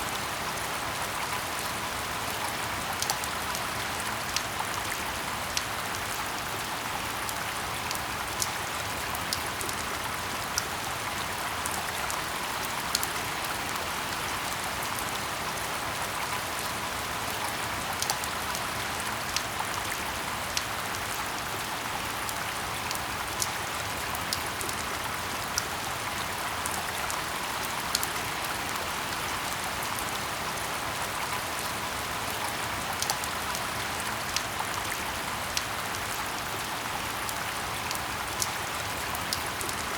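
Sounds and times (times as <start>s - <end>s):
rain hissing in forest: 0.0s - 39.9s.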